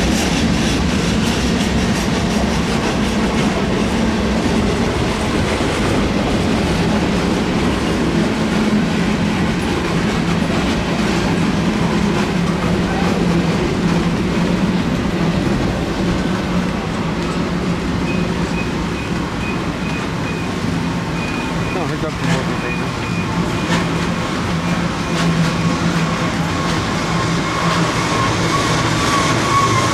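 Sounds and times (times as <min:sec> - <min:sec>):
freight train wheels clattering: 0:00.0 - 0:29.9.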